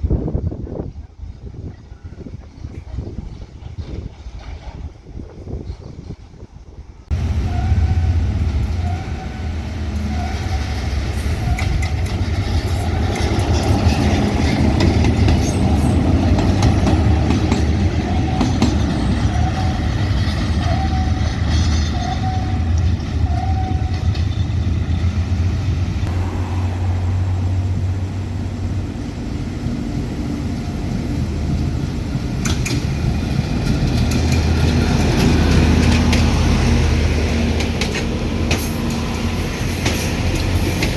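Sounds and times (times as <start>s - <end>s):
train engine hum and rolling: 0.0s - 40.9s.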